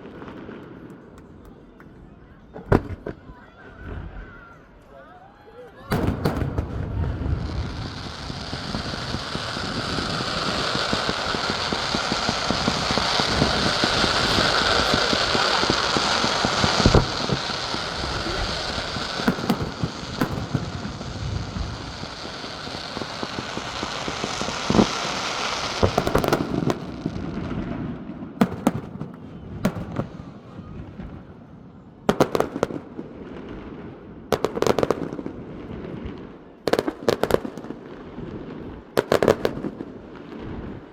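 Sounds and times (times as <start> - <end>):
fireworks crackling: 0.0 - 4.5, 5.9 - 40.9
fireworks bangs: 0.0 - 4.6, 5.8 - 40.9.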